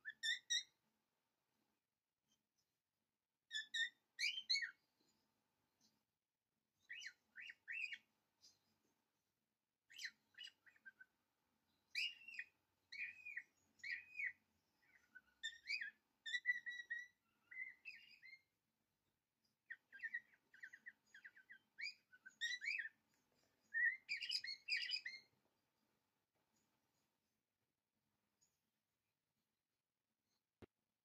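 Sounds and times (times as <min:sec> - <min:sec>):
small birds chirping: 0:00.0 - 0:00.8, 0:03.4 - 0:27.5.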